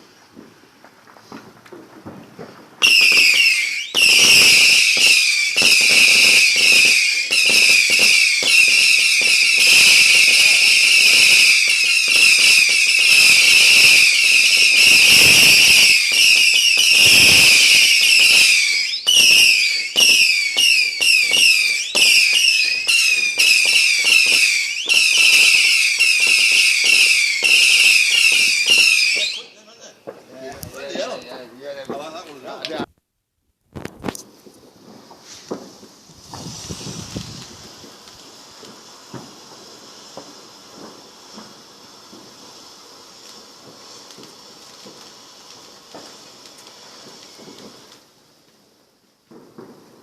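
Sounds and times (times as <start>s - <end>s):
whistling fireworks screeching: 0.0s - 32.8s, 33.7s - 50.0s
firework crackling pops: 0.0s - 50.0s.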